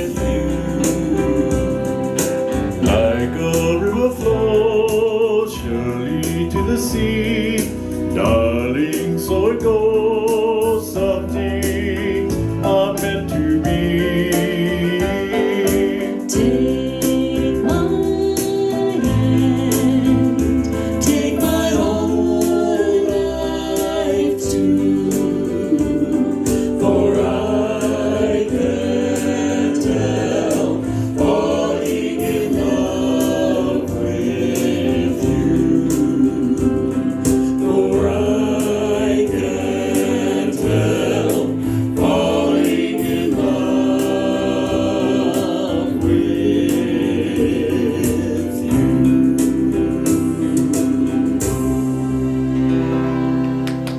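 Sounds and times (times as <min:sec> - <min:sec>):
band playing: 0:00.0 - 0:53.9
gospel choir singing: 0:00.0 - 0:53.9.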